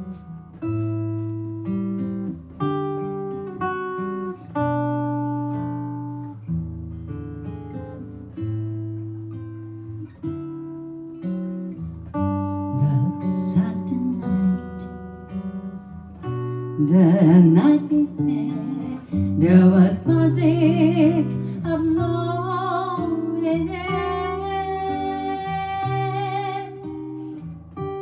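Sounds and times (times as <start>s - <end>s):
solo jazz guitar: 0.0s - 28.0s.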